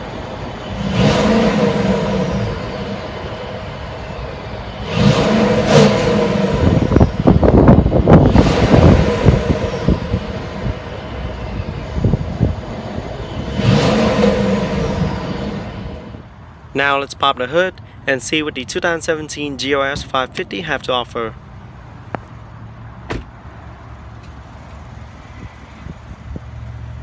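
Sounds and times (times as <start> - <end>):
car exhaust idling and revving: 0.0 - 16.8, 17.4 - 27.0.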